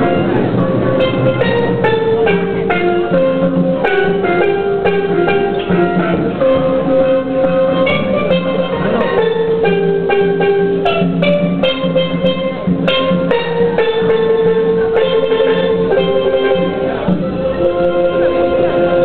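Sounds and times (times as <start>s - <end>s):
hand drum beat: 0.0s - 19.0s
steel pan band melody: 0.0s - 19.0s.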